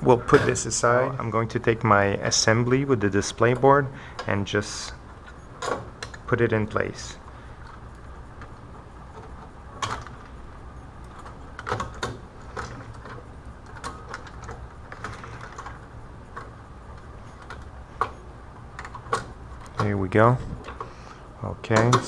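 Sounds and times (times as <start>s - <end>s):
faint steady low hum: 0.0s - 22.0s.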